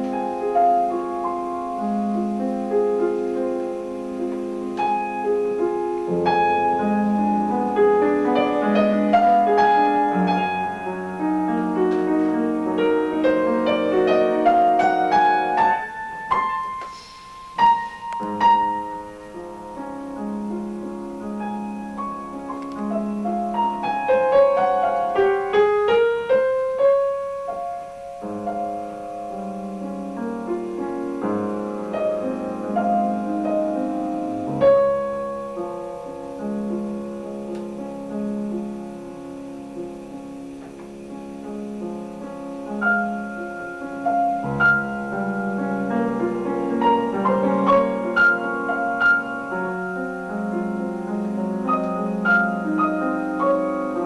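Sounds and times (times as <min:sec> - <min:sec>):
piano playing: 0:00.0 - 0:54.0.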